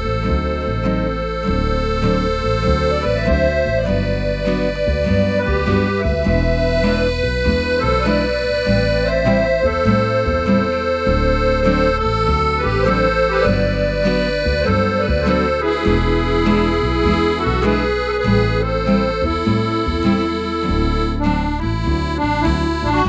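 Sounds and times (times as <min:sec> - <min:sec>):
accordion tune: 0:00.0 - 0:23.0
plucked rhythm accompaniment: 0:00.0 - 0:23.0.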